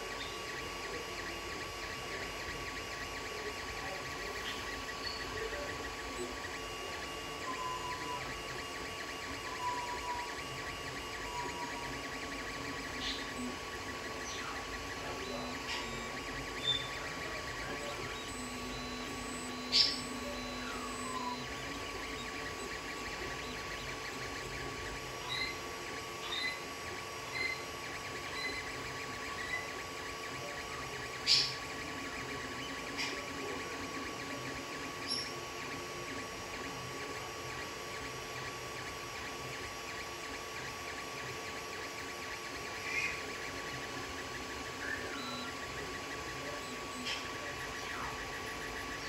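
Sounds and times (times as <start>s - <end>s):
printer fans and motors humming: 0.0s - 49.0s.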